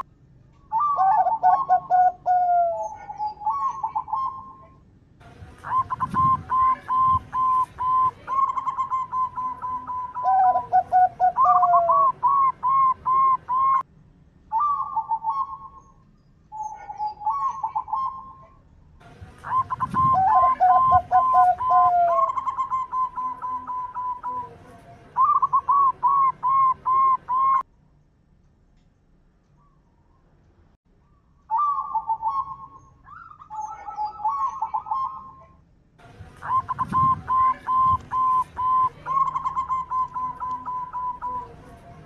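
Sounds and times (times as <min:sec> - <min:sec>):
dove cooing: 0:00.7 - 0:04.8, 0:05.6 - 0:13.8, 0:14.5 - 0:15.9, 0:16.5 - 0:18.6, 0:19.2 - 0:27.6, 0:31.5 - 0:35.6, 0:36.3 - 0:42.0.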